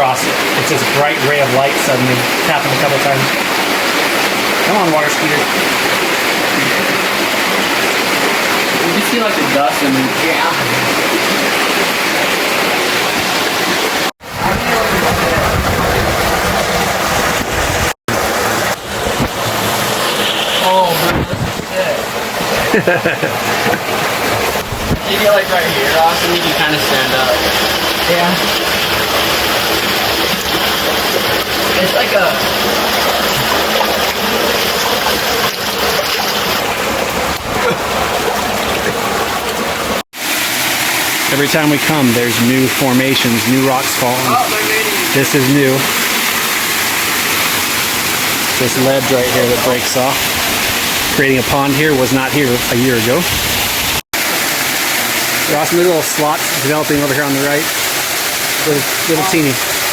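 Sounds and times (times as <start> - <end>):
waterfall pouring into a pool: 0.0 - 59.9.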